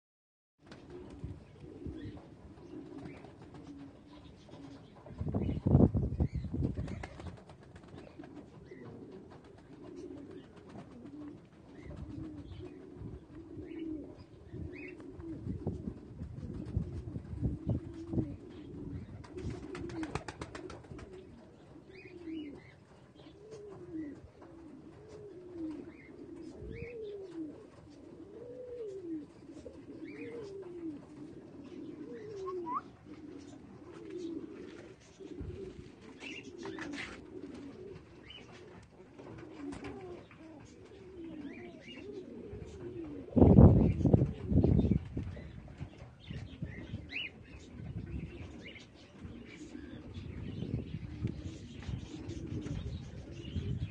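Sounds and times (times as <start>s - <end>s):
pigeons cooing: 0.7s - 53.9s.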